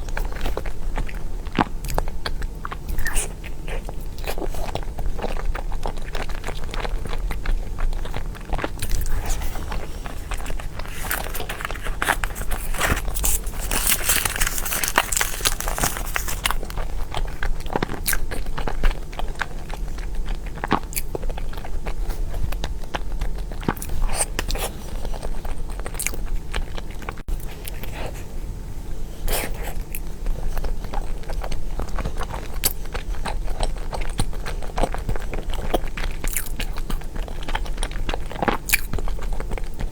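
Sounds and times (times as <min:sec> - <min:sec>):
person chewing cake: 0:00.0 - 0:39.9.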